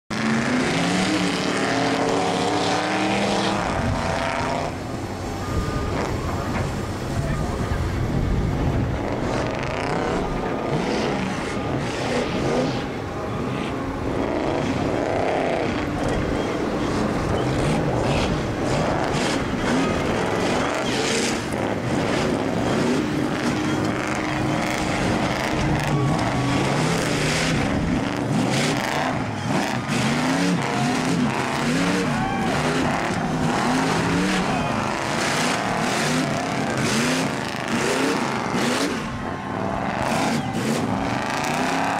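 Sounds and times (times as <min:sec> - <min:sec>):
buggy engines revving: 0:00.1 - 0:41.9.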